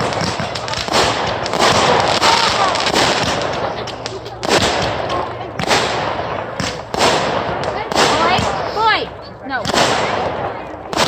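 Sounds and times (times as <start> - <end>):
firecrackers crackling: 0.0 - 11.0
firework bangs: 0.0 - 11.0.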